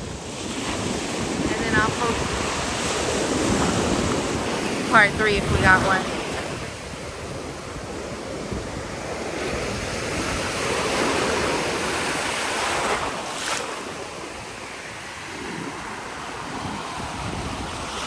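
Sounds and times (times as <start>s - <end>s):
ocean surf: 0.0s - 18.0s
wind buffeting microphone: 0.0s - 18.0s.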